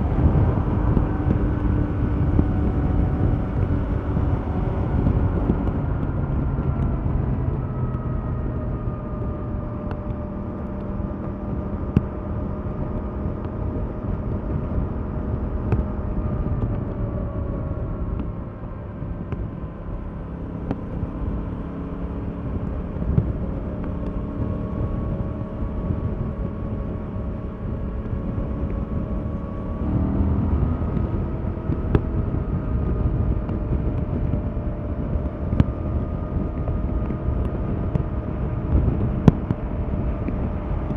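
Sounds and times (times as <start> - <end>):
motorcycle engine cruising: 0.0 - 40.9
wind and road rumble: 0.0 - 40.9.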